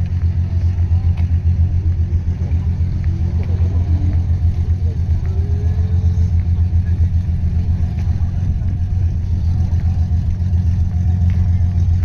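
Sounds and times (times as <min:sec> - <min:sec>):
car engine idling: 0:00.0 - 0:12.0
faint voices: 0:00.0 - 0:12.0.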